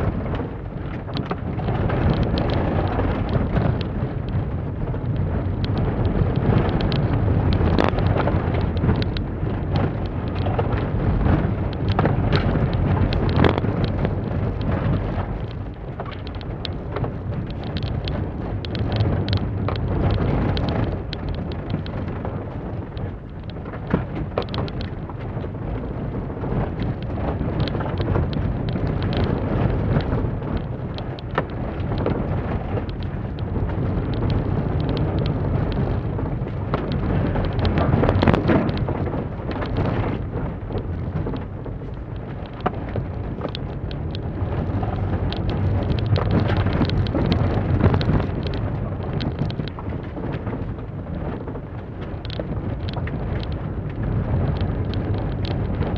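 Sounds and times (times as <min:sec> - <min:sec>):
gravel rattling against underbody: 0:00.0 - 0:55.9.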